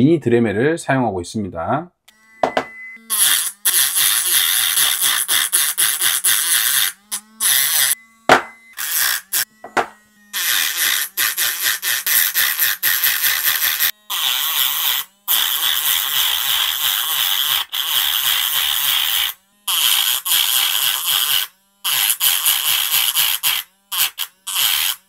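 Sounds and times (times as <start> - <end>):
rotary tool grinding metal: 2.1 - 25.0.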